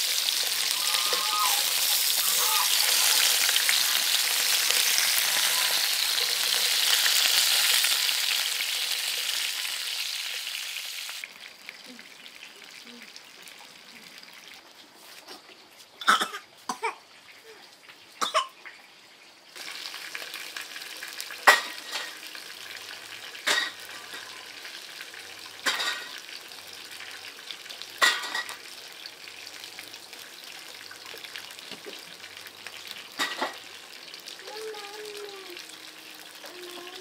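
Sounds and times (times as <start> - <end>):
food sizzling in a pan: 0.0 - 16.0, 17.1 - 37.0.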